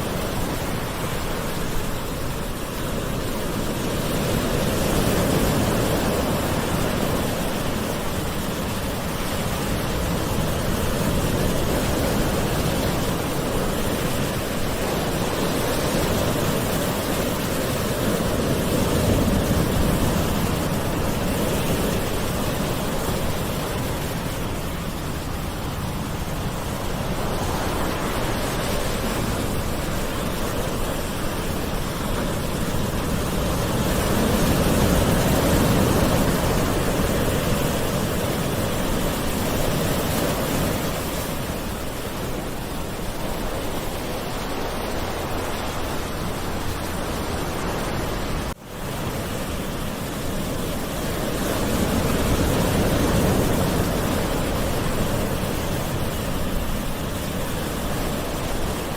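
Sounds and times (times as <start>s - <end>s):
ocean waves washing on shore: 0.0s - 58.9s.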